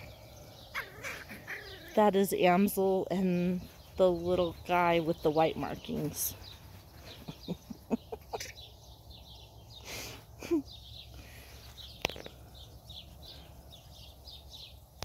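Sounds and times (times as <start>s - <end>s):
rustle: 0.0s - 14.8s
bird chirping: 0.0s - 15.0s.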